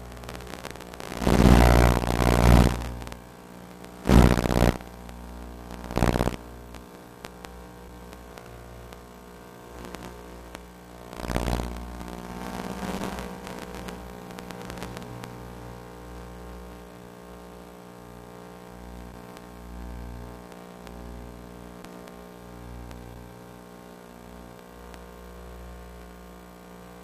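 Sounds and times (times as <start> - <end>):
steady electric hum: 0.0 - 27.0.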